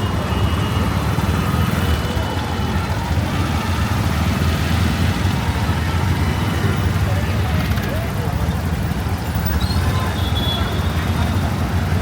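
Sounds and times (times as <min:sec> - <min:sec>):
crowd voices: 0:00.0 - 0:12.0
road traffic: 0:00.0 - 0:12.0.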